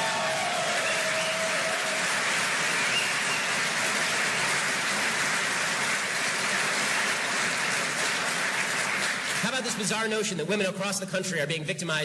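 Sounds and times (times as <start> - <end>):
large audience applauding: 0.0 - 10.2.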